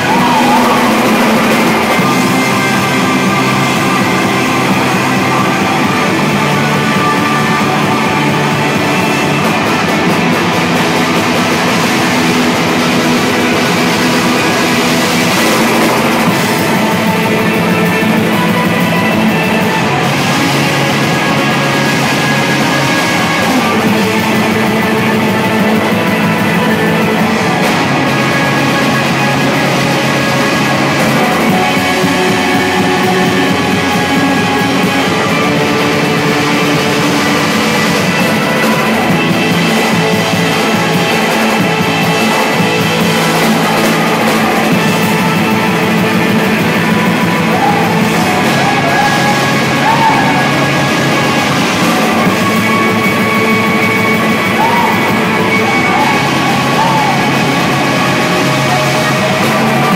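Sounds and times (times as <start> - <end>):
drum kit: 0.0 - 59.9
electric guitars: 0.0 - 59.9.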